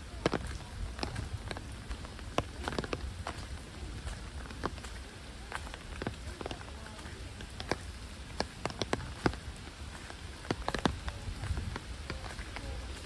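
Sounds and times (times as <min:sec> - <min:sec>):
heavy rain falling: 0:00.0 - 0:13.0
raindrops striking sharply: 0:00.0 - 0:13.0.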